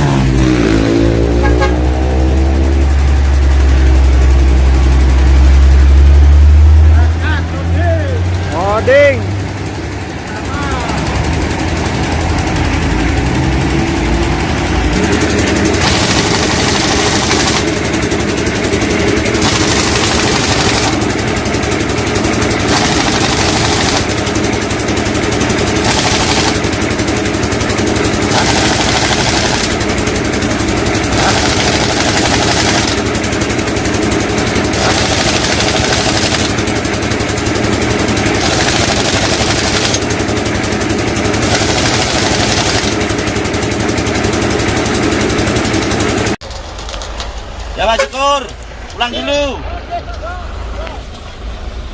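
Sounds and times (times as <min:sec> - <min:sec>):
diesel engine rattling: 0:00.0 - 0:51.9.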